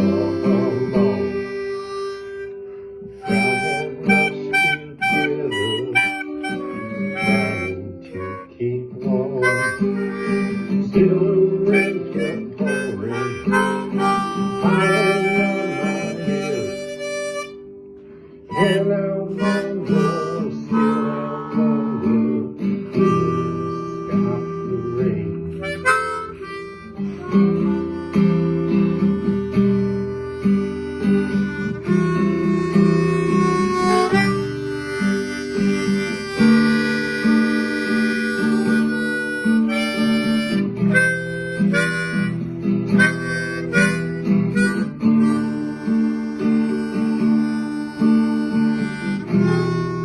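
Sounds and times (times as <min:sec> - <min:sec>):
harmonica melody: 0:00.0 - 0:50.0
strummed acoustic guitar: 0:00.0 - 0:50.0.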